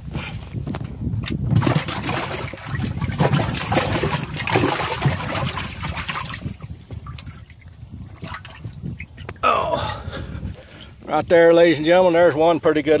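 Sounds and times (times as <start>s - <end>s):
water splashing and sloshing: 0.1s - 11.3s.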